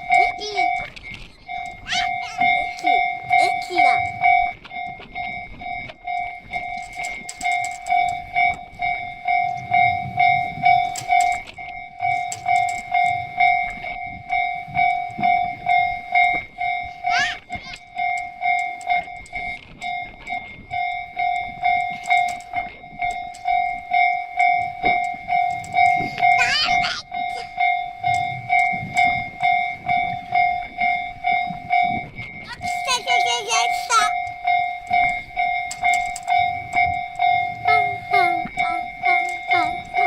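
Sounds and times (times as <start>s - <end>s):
level-crossing warning bell: 0.0s - 40.0s.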